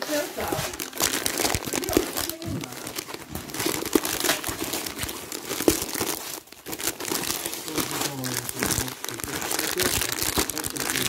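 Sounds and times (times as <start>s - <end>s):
wrapping paper crinkling: 0.0s - 11.0s.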